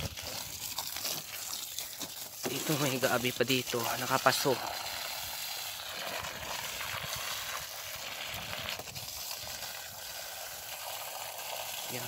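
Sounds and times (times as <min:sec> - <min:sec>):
garden hose water splashing: 0:00.0 - 0:12.0.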